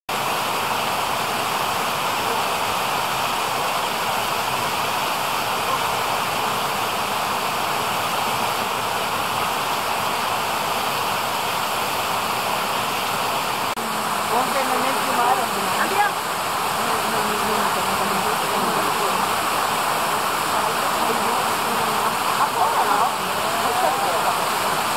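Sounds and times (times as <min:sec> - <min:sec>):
stream water flowing: 0:00.1 - 0:24.9.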